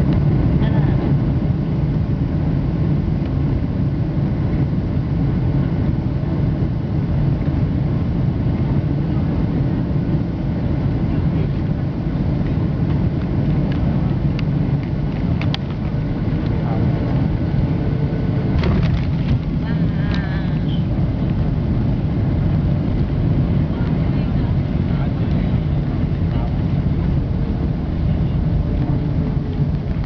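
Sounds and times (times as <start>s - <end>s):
aircraft engines rumbling: 0.0s - 30.0s
airflow in cabin: 0.0s - 30.0s.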